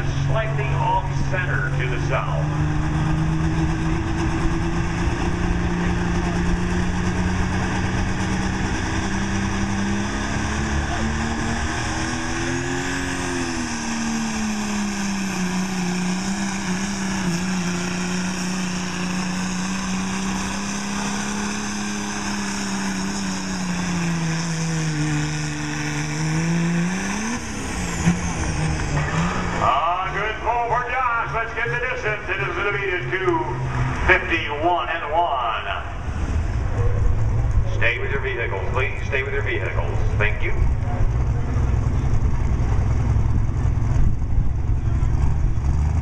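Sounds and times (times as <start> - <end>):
pickup engine revving under load: 0.0 - 46.0.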